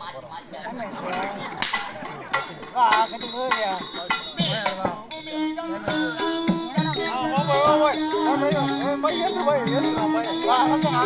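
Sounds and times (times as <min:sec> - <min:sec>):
rattling percussion: 0:01.1 - 0:11.0
drum strikes: 0:01.6 - 0:11.0.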